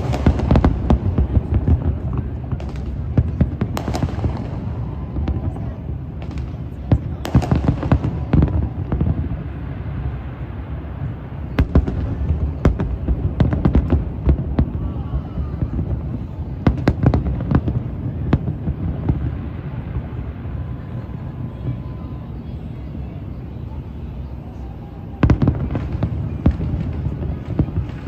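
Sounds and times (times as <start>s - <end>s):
fireworks bangs: 0.0s - 23.0s, 24.5s - 28.0s
crowd voices: 0.0s - 28.0s.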